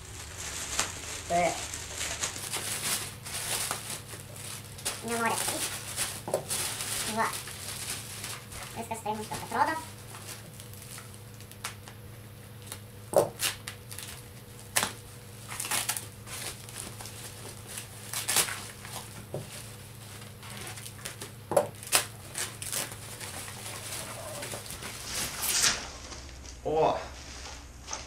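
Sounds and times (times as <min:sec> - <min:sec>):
plastic bag crinkling and rustling: 0:00.0 - 0:28.0.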